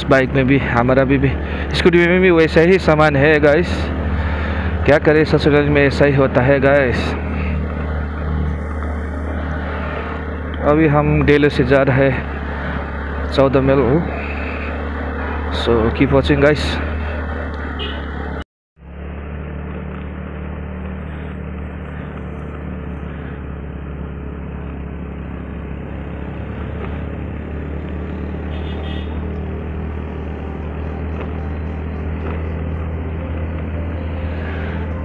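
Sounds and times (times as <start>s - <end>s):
scooter engine running: 0.0s - 35.0s
wind and road noise: 0.0s - 35.0s.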